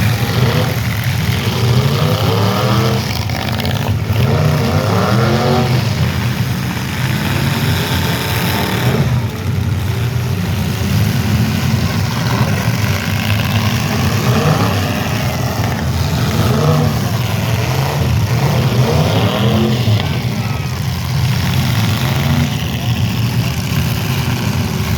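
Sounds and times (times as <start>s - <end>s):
car engines revving: 0.0s - 24.9s.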